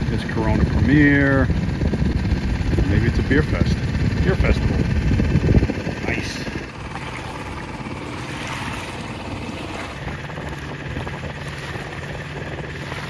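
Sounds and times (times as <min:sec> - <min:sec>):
outboard motor running: 0:00.0 - 0:13.0
wind and water rushing: 0:00.0 - 0:13.0.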